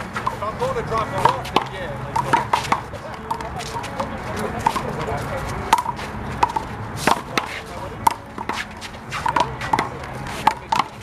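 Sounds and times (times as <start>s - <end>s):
handball slapping wall and ground: 1.2s - 5.1s, 5.7s - 11.0s.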